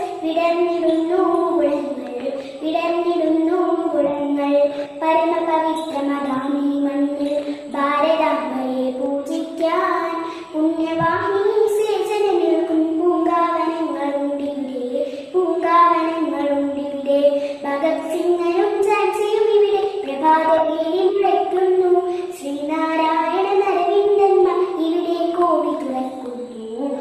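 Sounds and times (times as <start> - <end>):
girl singing: 0.0 - 27.0.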